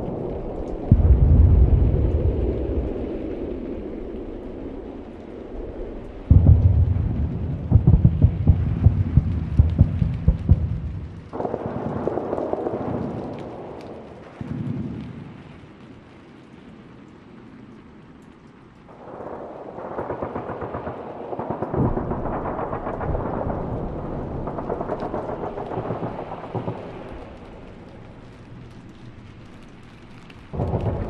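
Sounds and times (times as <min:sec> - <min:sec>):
distant explosions rumbling: 0:00.0 - 0:15.4, 0:18.9 - 0:31.0
crackling gunfire: 0:00.0 - 0:18.1, 0:18.8 - 0:31.0.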